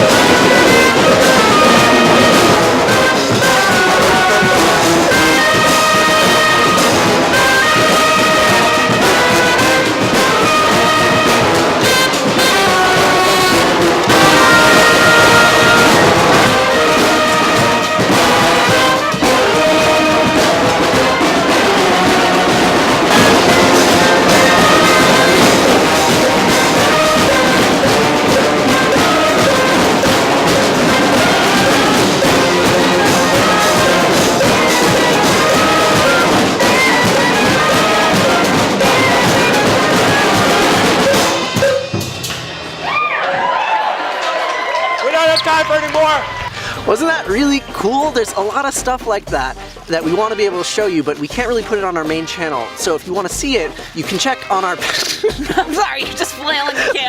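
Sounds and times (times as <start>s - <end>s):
horn band playing chords: 0.0s - 57.0s.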